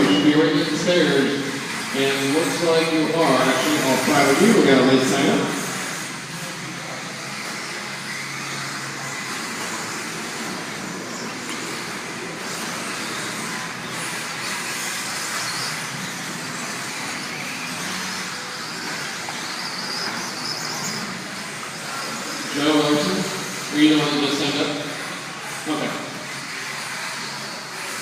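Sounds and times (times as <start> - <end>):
rc car motors whirring: 0.0 - 28.0
rising motor whine: 0.0 - 28.0.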